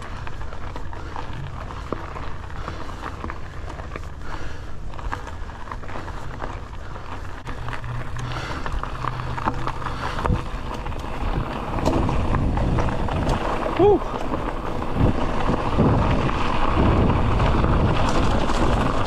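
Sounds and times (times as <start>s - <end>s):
bike clicks and rattles: 0.0s - 19.0s
bike tyres rumbling on gravel: 0.0s - 19.0s.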